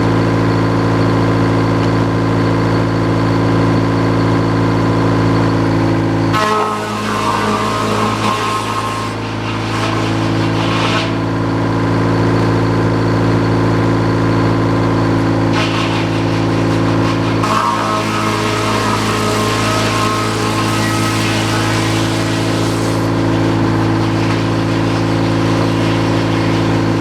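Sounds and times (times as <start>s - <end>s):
sawmill engine running: 0.0s - 27.0s.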